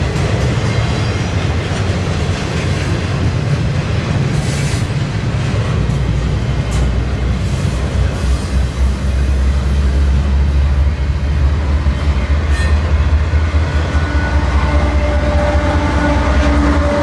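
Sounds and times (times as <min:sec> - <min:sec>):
diesel locomotive rumble: 0:00.0 - 0:17.0
train wheels rumbling on rails: 0:00.0 - 0:17.0.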